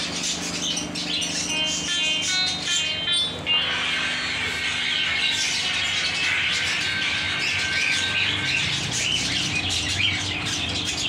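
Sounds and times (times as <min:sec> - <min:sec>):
small birds chirping: 0:00.0 - 0:03.7, 0:04.3 - 0:11.0.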